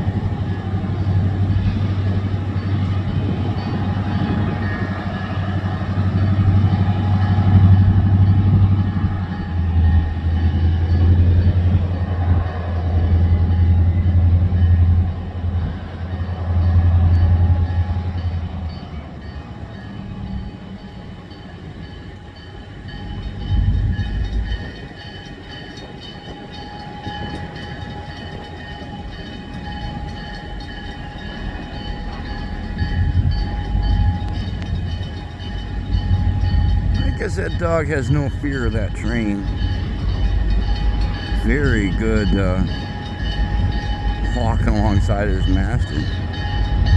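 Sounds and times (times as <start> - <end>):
diesel locomotive rumbling: 0.0 - 46.9
train rolling past: 0.0 - 46.9.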